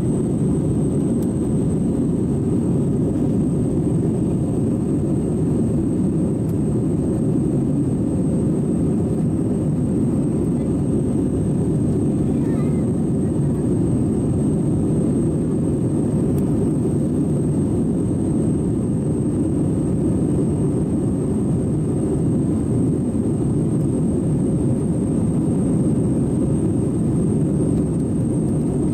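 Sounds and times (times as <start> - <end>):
faint high whine: 0.0 - 28.9
jet engines roaring in cabin: 0.0 - 28.9.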